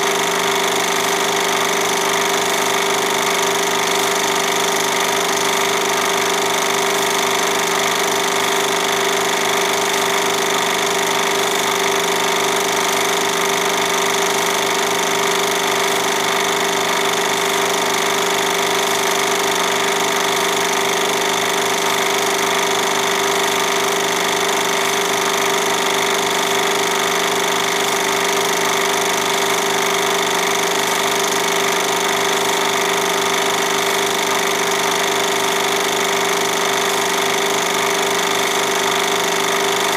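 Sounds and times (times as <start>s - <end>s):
projector motor hum: 0.0s - 39.9s.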